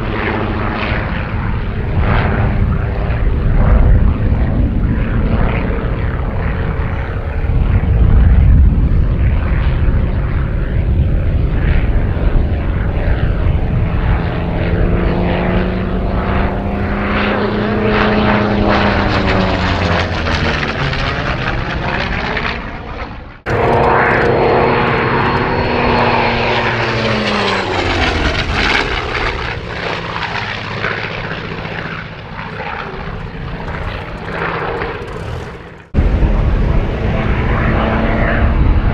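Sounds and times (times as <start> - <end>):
propeller aircraft engine passing overhead: 0.0 - 38.9.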